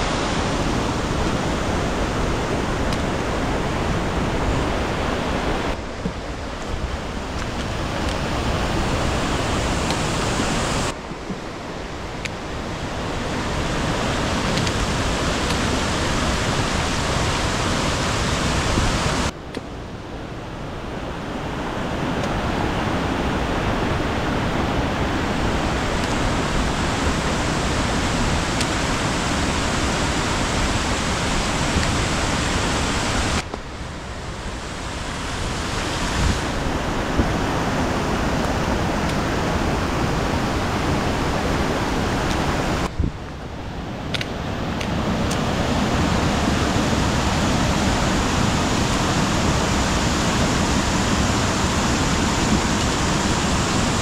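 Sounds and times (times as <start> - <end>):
waterfall rushing: 0.0 - 19.3, 20.8 - 54.0.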